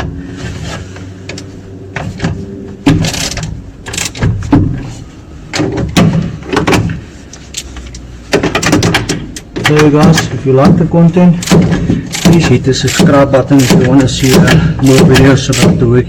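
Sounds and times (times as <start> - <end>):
tools knocking and clanking: 1.2 - 4.9, 5.5 - 7.0, 7.6 - 15.9.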